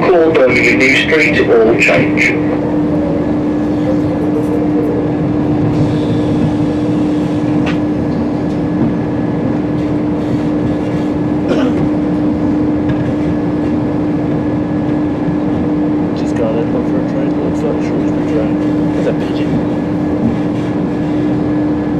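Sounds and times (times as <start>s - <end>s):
train hum and rumble: 0.0s - 21.9s.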